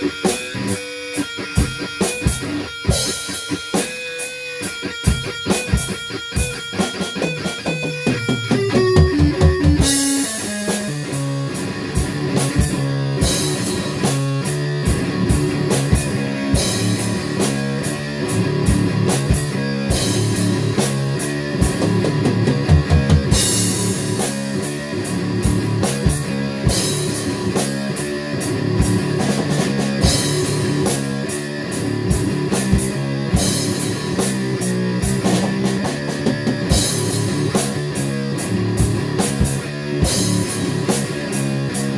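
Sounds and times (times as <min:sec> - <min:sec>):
drum kit: 0:00.0 - 0:41.9
electric guitar: 0:00.0 - 0:41.9.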